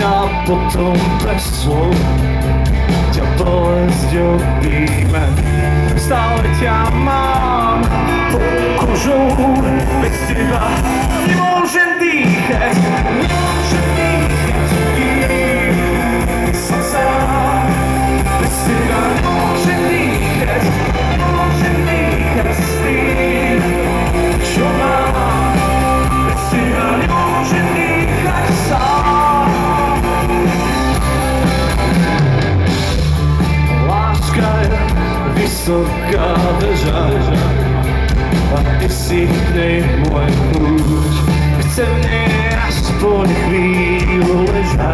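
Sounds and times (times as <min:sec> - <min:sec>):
live rock band instrumental: 0:00.0 - 0:44.9.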